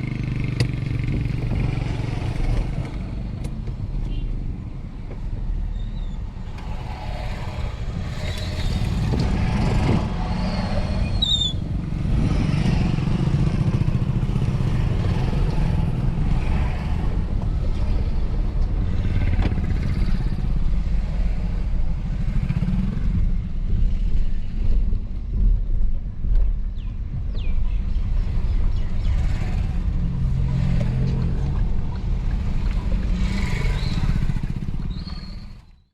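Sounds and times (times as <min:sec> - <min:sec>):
motorcycles: 0:00.0 - 0:35.9
vehicle engines rumbling: 0:00.0 - 0:35.9.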